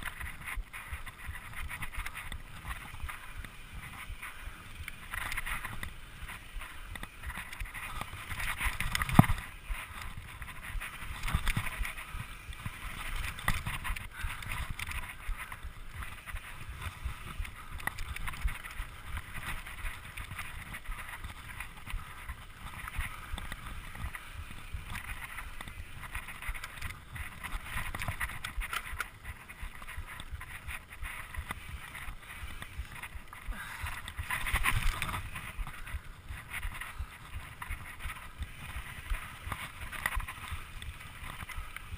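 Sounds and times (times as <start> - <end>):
bike rattling and clicking: 0.0 - 41.9
bike tyres running over dirt: 0.0 - 41.9.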